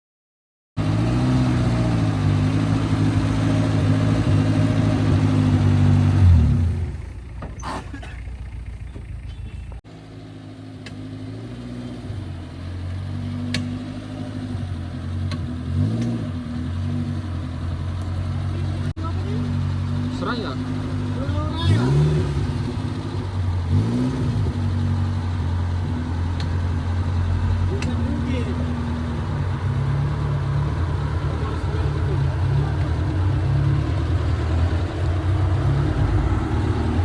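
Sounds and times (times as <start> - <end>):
off-road vehicle engine revving: 0.8 - 37.0.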